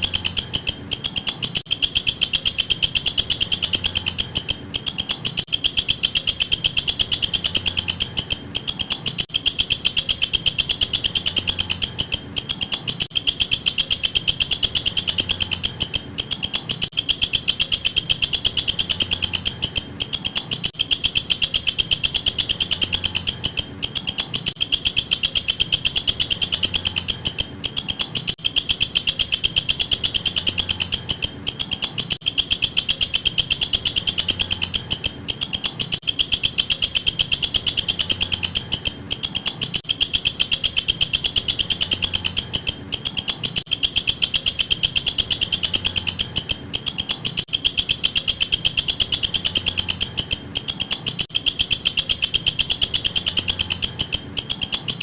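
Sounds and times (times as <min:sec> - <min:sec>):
katydid ticking call: 0:00.0 - 0:55.0.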